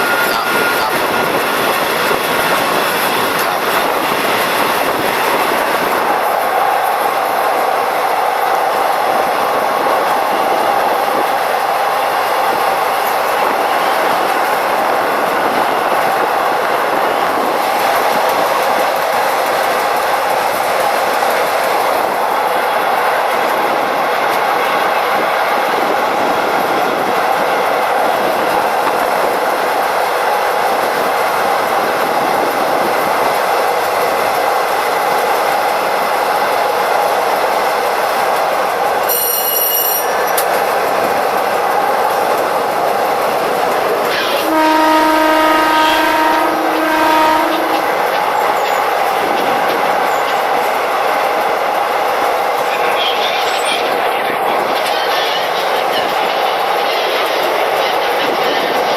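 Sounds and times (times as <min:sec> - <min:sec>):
train rumble and rail clatter: 0:00.0 - 0:58.9.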